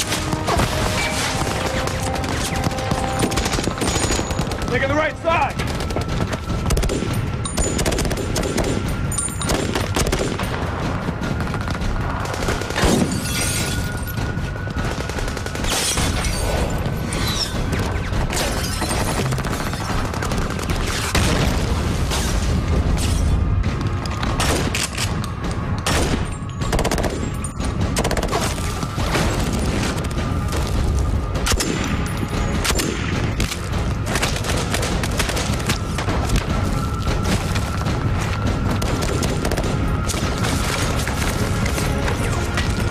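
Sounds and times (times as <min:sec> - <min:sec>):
film score music: 0:00.0 - 0:42.9.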